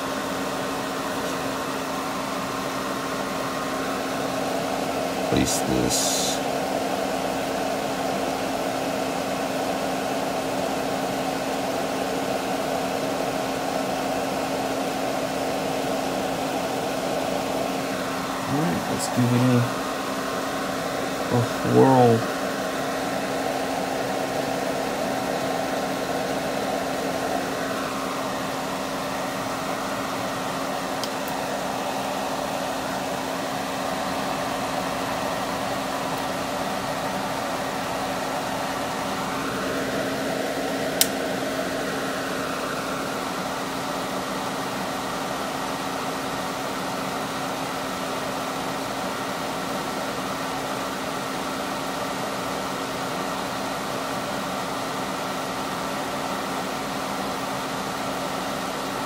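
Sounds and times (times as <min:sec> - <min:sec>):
hot air blowing with motor hum: 0:00.0 - 0:59.0.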